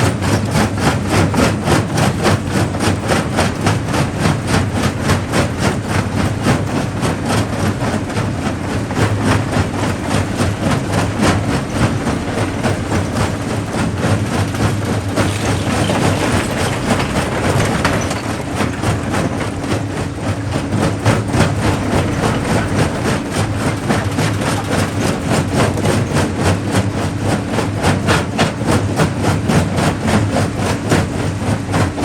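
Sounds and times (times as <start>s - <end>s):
rock clattering through crusher: 0.1s - 29.4s.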